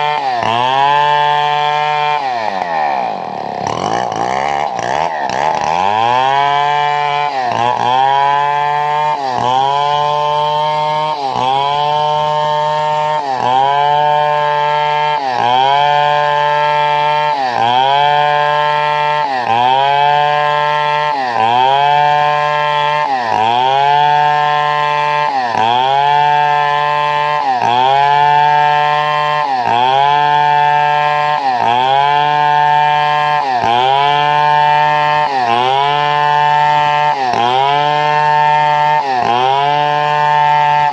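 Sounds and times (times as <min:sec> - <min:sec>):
chainsaw ripping wood: 0:00.0 - 0:40.9.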